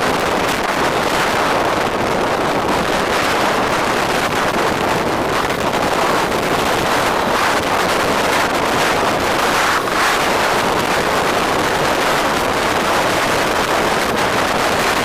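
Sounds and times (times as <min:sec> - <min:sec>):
road noise: 0:00.0 - 0:15.0
wind roaring on microphone: 0:00.0 - 0:15.0.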